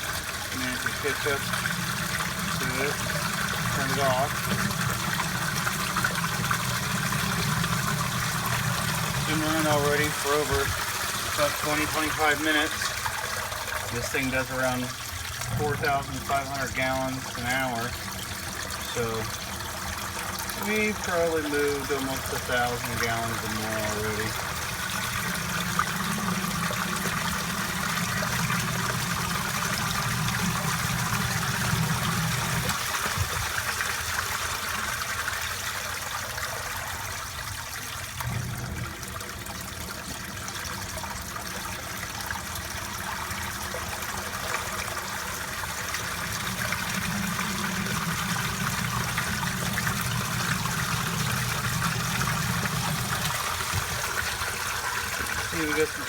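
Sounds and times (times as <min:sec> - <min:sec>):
sump pump humming: 0:00.0 - 0:56.0
water rushing: 0:00.0 - 0:56.0.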